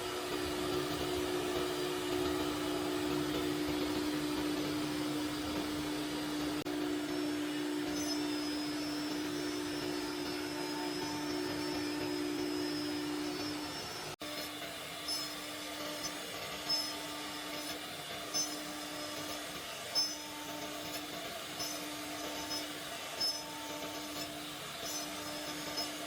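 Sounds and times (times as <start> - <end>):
cnc router motor hum: 0.0 - 26.0.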